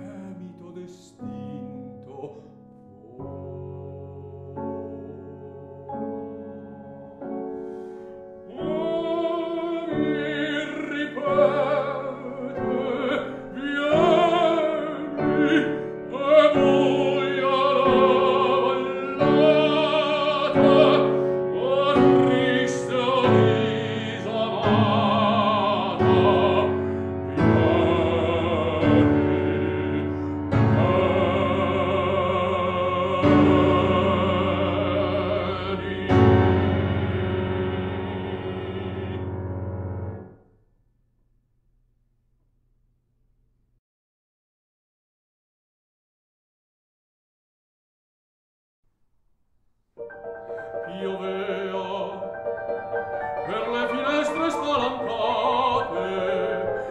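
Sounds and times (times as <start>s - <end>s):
operatic baritone singing: 0.0s - 7.4s, 8.4s - 40.2s, 50.1s - 56.9s
piano chords: 0.0s - 40.6s, 50.0s - 56.9s.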